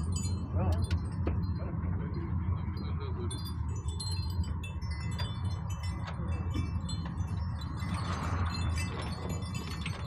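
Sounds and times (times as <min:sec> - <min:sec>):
vehicle rumbling along road: 0:00.0 - 0:10.0.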